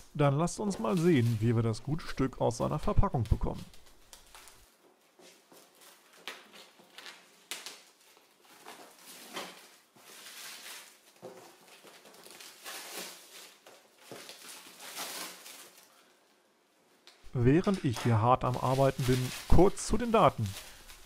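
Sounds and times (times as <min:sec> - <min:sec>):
plastic wrap crinkling: 0:00.5 - 0:16.3, 0:16.9 - 0:21.0.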